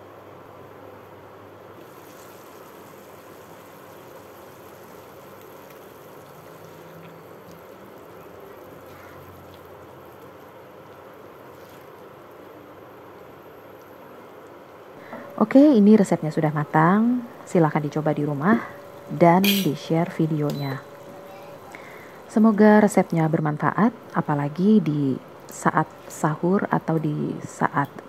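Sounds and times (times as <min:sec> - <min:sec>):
vegetables simmering in a wok: 0:00.7 - 0:27.9.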